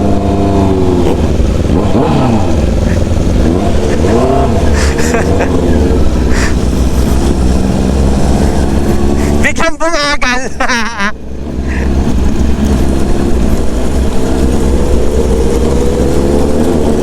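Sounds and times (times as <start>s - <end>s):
motorcycle engine revving: 0.0s - 9.6s, 11.2s - 17.0s.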